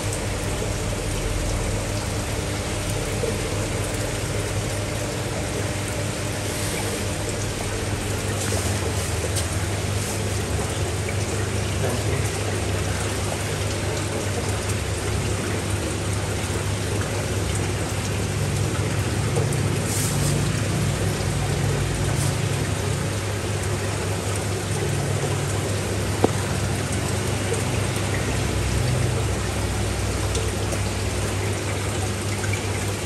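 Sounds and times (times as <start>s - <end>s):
electrical pump hum: 0.0s - 33.0s
running splashing water: 0.0s - 33.0s.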